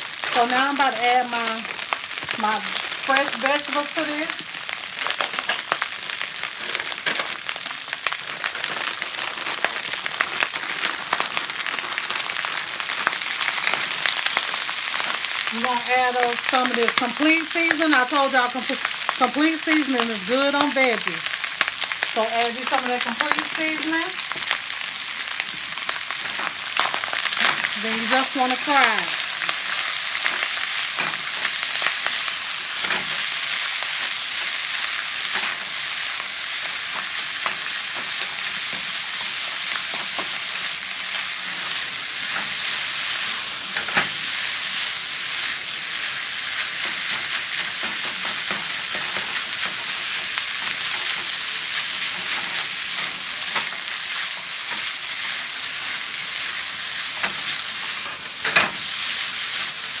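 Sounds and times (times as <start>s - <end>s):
fried rice sizzling: 0.0s - 60.0s.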